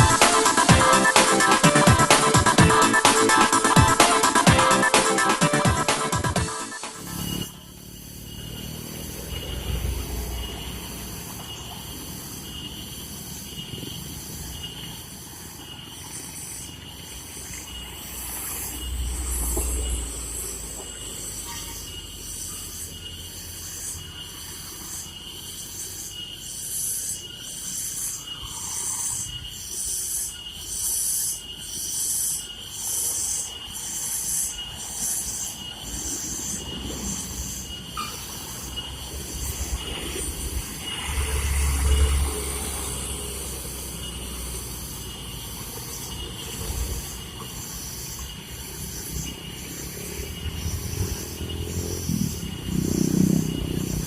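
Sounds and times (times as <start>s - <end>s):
high pulsing hiss: 0.0s - 54.0s.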